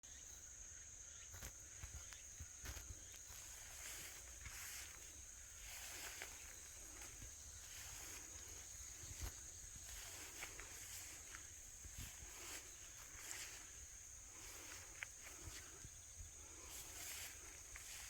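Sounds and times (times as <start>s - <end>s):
high-pitched insect drone: 0.1s - 18.0s.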